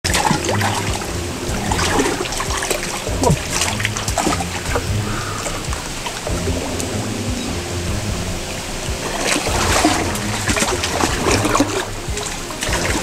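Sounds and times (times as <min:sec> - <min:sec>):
background music with low pulse: 0:00.0 - 0:13.0
water splashing around wading person: 0:00.0 - 0:13.0.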